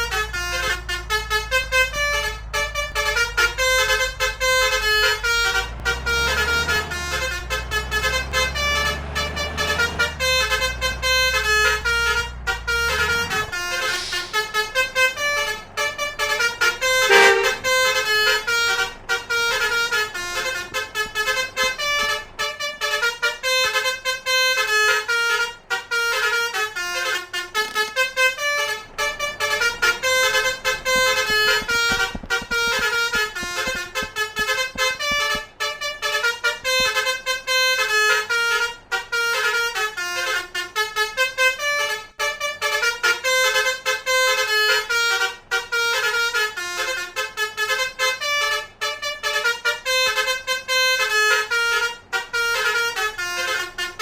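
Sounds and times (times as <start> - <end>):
multi-tone bus horn melody: 0.0 - 54.0.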